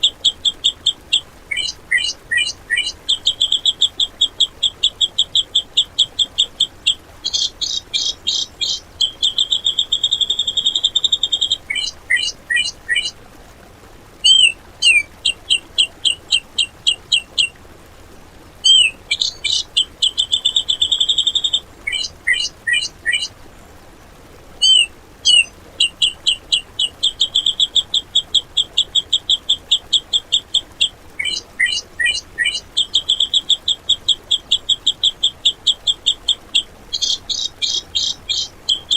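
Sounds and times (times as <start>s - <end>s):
bulbul singing harsh rapid notes: 0.0s - 13.1s, 14.2s - 17.5s, 18.6s - 23.3s, 24.6s - 38.9s.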